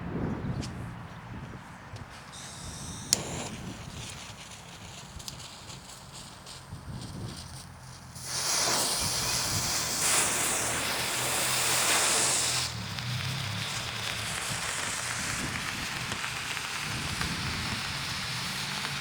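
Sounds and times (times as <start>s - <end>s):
smoke ball hissing: 2.3s - 19.0s.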